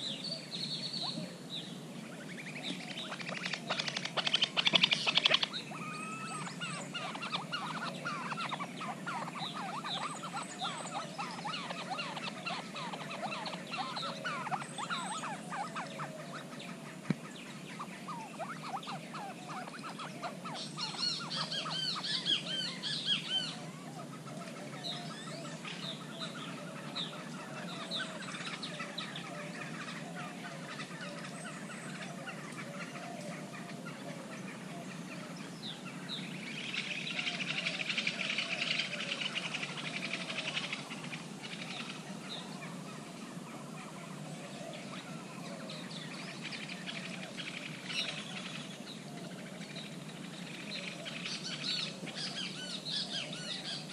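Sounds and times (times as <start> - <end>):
birds calling harshly: 0.0 - 53.9.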